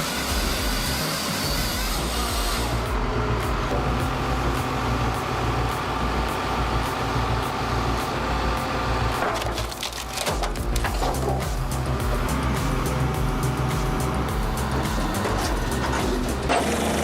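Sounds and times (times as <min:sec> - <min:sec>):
wood chipper engine droning: 0:00.0 - 0:17.0.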